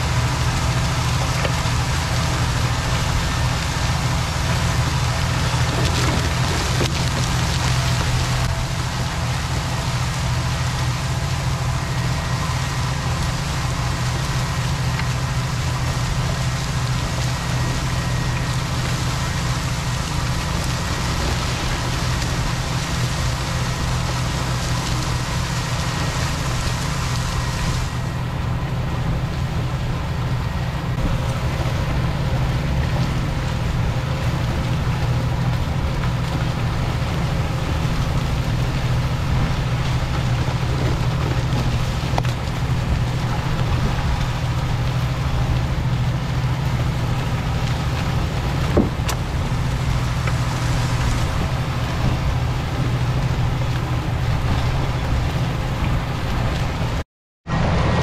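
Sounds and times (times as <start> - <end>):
tractor diesel engine rumbling: 0.0 - 58.0.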